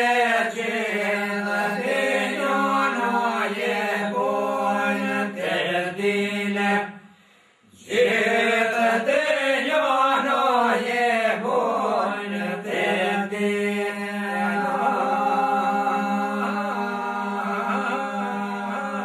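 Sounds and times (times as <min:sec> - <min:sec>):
men singing a drone: 0:00.0 - 0:07.1, 0:07.8 - 0:19.0.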